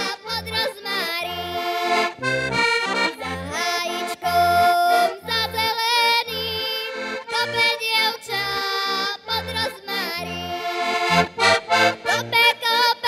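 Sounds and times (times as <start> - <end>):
button accordion folk tune: 0.0 - 13.0.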